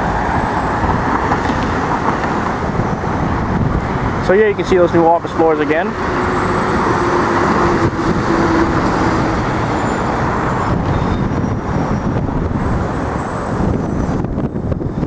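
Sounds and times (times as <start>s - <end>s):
road noise from passing vehicles: 0.0s - 15.0s.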